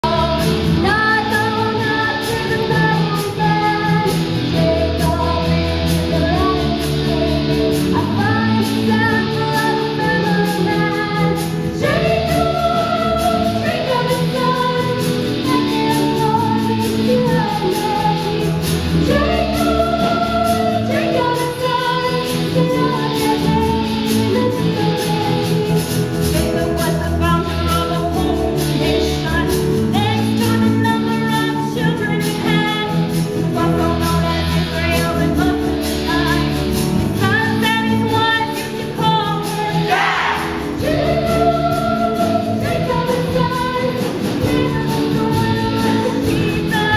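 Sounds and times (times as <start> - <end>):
instrumental accompaniment: 0.0 - 46.9
women singing: 0.0 - 46.9.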